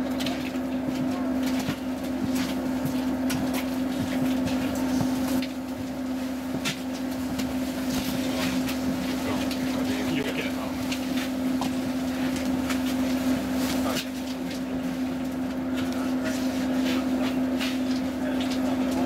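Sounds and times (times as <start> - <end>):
train hum: 0.0 - 19.0.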